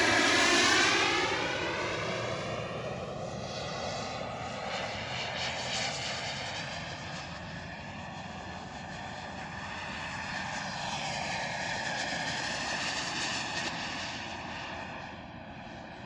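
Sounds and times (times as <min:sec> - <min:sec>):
model jet turbine whine: 0:00.0 - 0:16.0.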